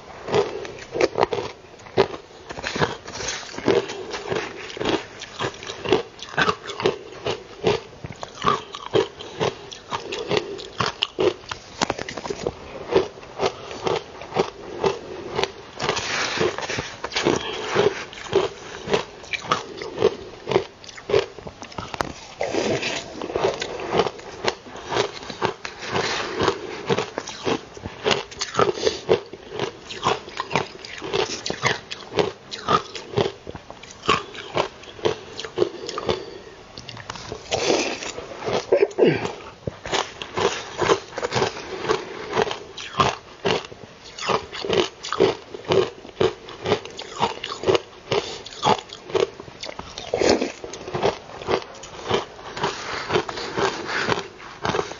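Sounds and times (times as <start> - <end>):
ice crunching in mouth: 0.2 - 54.9.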